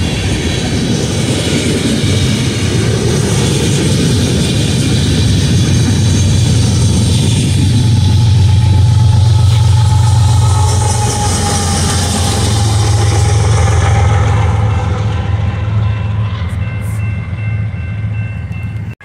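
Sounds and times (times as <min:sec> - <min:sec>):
diesel locomotive engine hum: 0:00.0 - 0:19.0
train rolling noise: 0:00.0 - 0:19.0.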